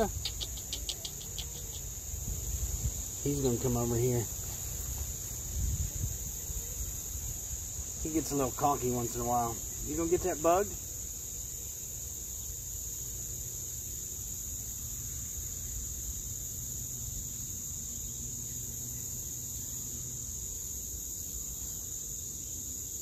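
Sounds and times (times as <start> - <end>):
insect chorus buzzing: 0.0 - 23.0.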